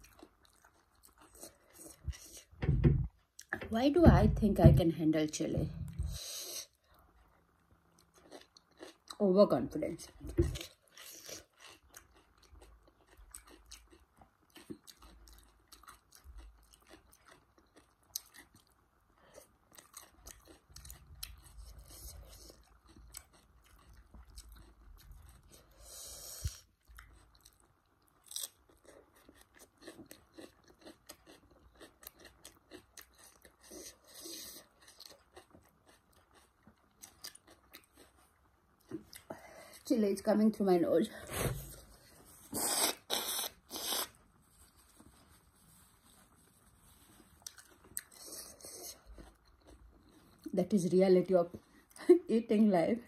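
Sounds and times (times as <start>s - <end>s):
chewing and crunching food: 0.0s - 3.6s, 5.8s - 39.9s, 41.5s - 50.8s.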